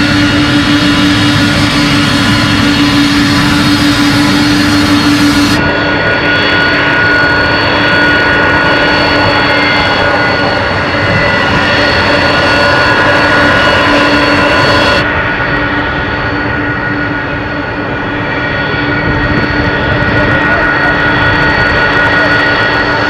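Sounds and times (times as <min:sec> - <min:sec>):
jet engine whine: 0:00.0 - 0:23.0
jet engines roaring: 0:00.0 - 0:23.0.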